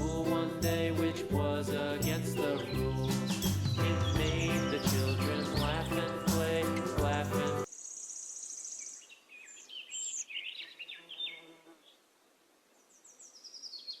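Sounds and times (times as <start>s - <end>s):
birds singing: 0.0s - 0.9s, 2.0s - 12.0s, 12.8s - 14.0s.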